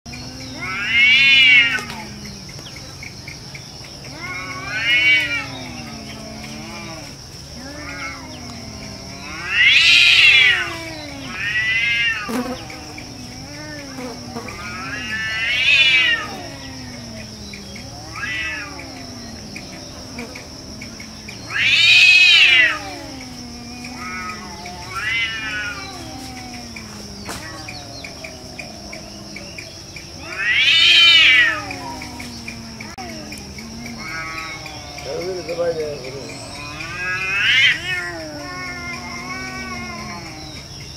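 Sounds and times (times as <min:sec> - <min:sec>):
cats yowling: 0:00.1 - 0:40.9.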